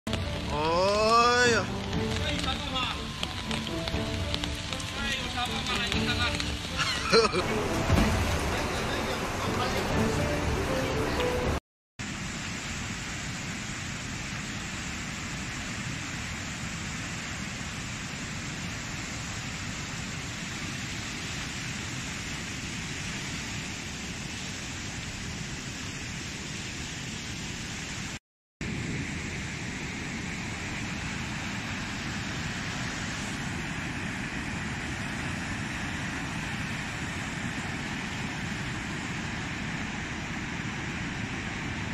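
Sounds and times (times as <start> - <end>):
floodwater rushing: 0.1 - 41.9.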